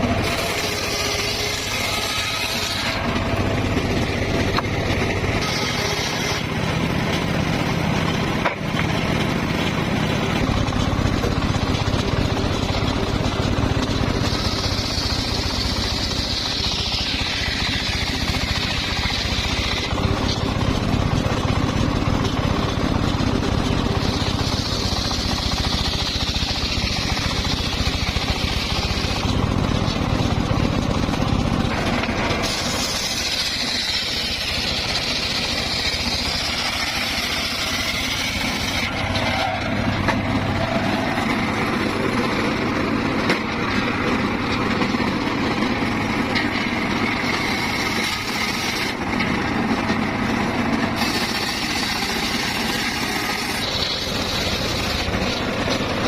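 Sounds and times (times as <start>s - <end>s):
circular sawmill sawing log: 0.0s - 56.0s.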